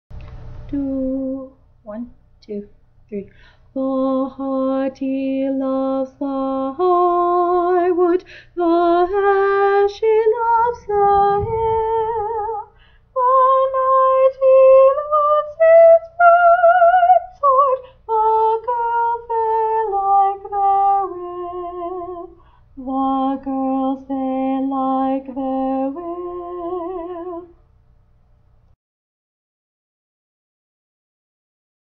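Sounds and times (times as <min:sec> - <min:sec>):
woman singing unaccompanied: 0:00.7 - 0:27.6.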